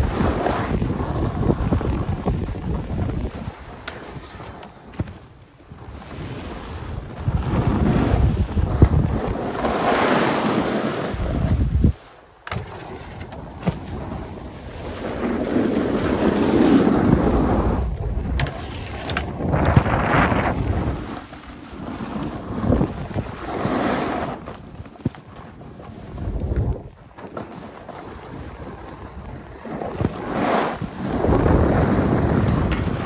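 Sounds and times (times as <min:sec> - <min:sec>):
wind rushing over microphone: 0:00.0 - 0:24.9, 0:25.5 - 0:27.1, 0:28.0 - 0:33.0
skis scraping on snow: 0:00.1 - 0:01.9, 0:02.7 - 0:05.2, 0:06.0 - 0:25.0, 0:29.7 - 0:33.0.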